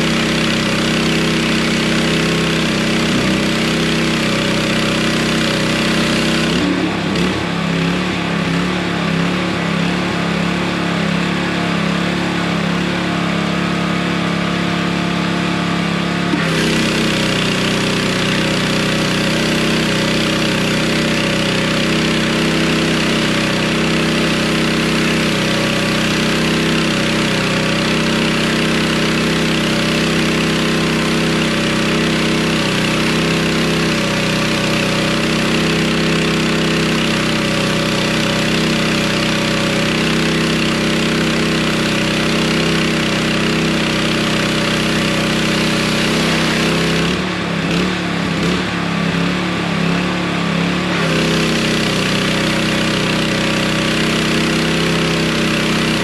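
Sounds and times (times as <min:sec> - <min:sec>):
high-pressure water spraying concrete: 0:00.0 - 0:08.7, 0:16.3 - 0:48.6, 0:51.0 - 0:56.0
pressure washer engine running: 0:00.0 - 0:56.0.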